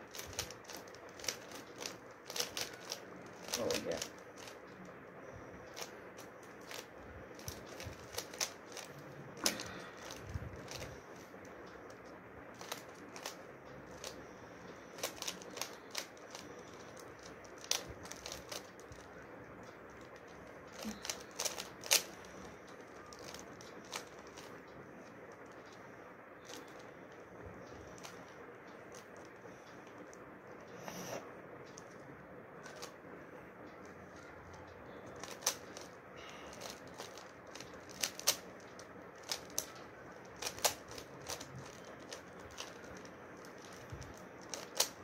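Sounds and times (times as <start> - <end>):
puzzle cube plastic clicks: 0.0 - 19.2, 19.9 - 25.8, 26.4 - 30.2, 32.6 - 33.0, 34.9 - 45.0.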